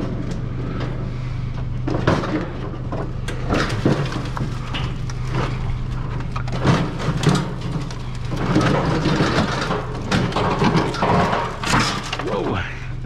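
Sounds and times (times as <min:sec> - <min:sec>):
scrap metal clanking: 0:00.7 - 0:12.4.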